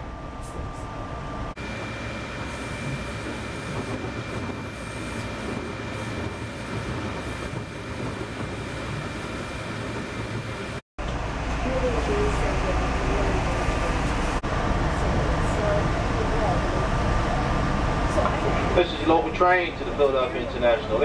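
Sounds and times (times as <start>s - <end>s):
train rumble and rushing: 0.0s - 21.0s.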